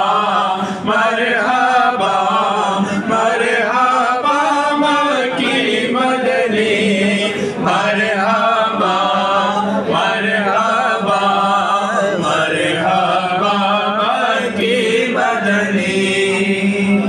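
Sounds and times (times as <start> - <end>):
men chanting devotional song: 0.0 - 17.0.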